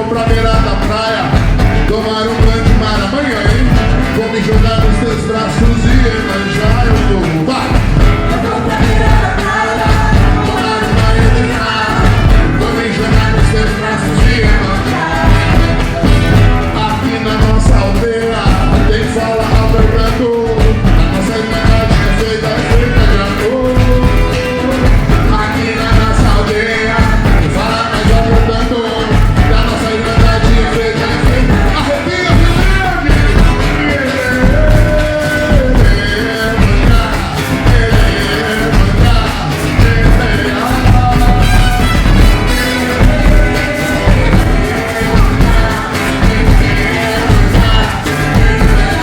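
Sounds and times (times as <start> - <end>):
carnival band playing: 0.0 - 49.0
drums and percussion beat: 0.0 - 49.0
held melody line: 0.0 - 49.0
people singing: 0.0 - 49.0.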